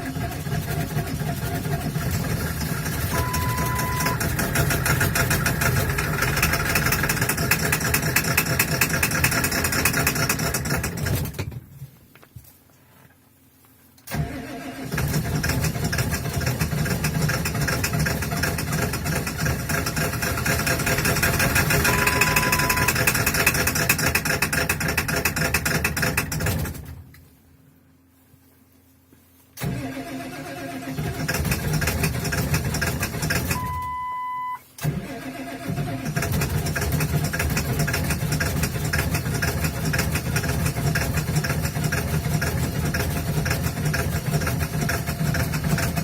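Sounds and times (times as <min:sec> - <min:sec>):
diesel engine cranking: 0:00.0 - 0:11.6, 0:14.1 - 0:27.0, 0:29.6 - 0:34.0, 0:34.8 - 0:46.0.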